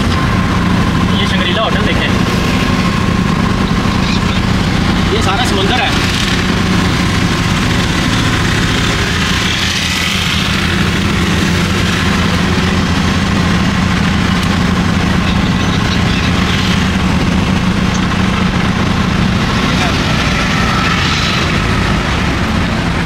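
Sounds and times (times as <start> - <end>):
auto-rickshaw engine running: 0.0 - 23.0.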